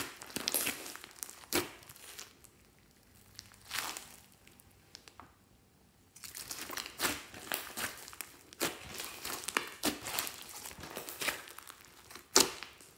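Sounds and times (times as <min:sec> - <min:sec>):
slime crackling and squelching: 0:00.0 - 0:05.2, 0:06.1 - 0:12.9.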